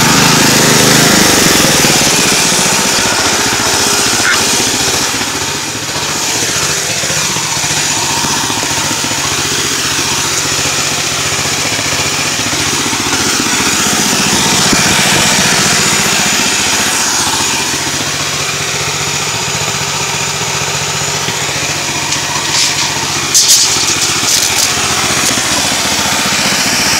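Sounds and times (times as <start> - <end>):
sharp clatters: 0.0 - 17.1, 19.6 - 26.9
chainsaw running: 0.0 - 26.9.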